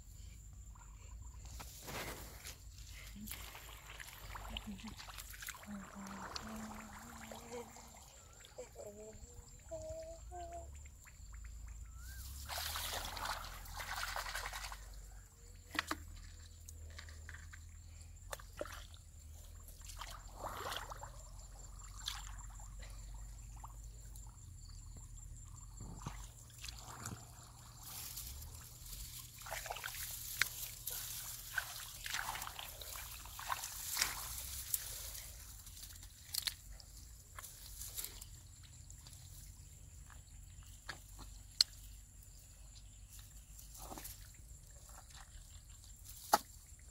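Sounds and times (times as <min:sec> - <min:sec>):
hands sloshing through muddy water: 0:01.5 - 0:08.8, 0:11.0 - 0:24.4, 0:25.5 - 0:46.9.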